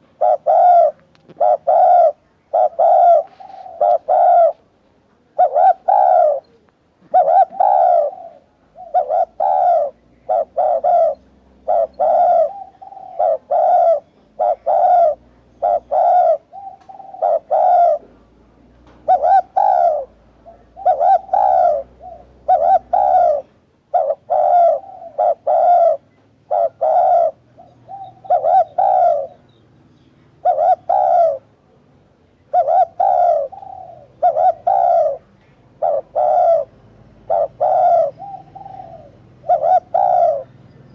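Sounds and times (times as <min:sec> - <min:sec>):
dove cooing: 0:00.0 - 0:31.6, 0:32.4 - 0:40.9.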